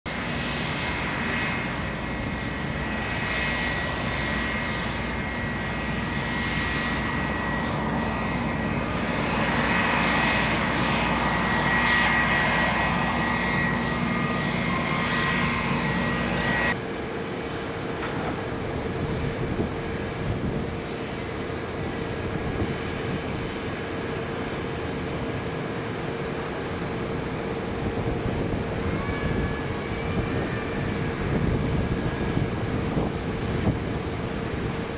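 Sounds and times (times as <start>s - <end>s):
jet engines whining: 0.1s - 34.9s.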